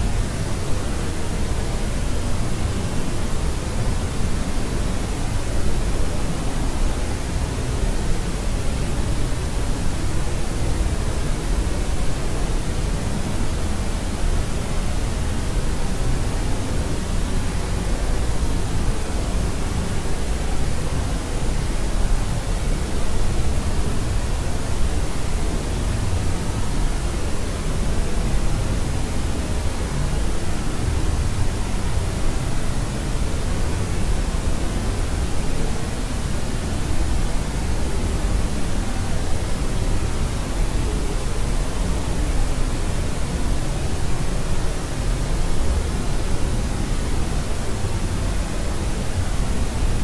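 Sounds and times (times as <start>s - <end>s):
low white noise: 0.0s - 50.0s
steady pink noise rush: 0.0s - 50.0s.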